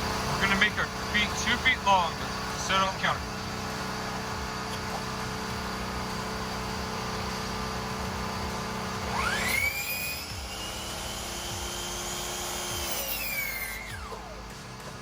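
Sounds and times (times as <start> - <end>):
power tool motor whine: 0.0 - 15.0.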